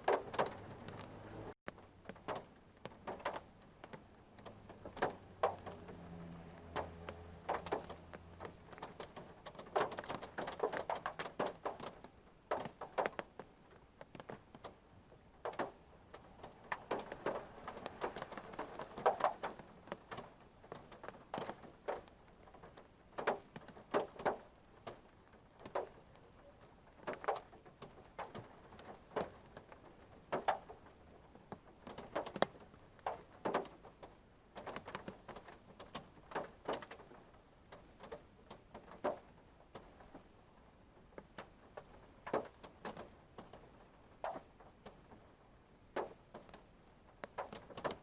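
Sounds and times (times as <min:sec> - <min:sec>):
raindrops tapping on car roof: 0:00.0 - 0:48.0.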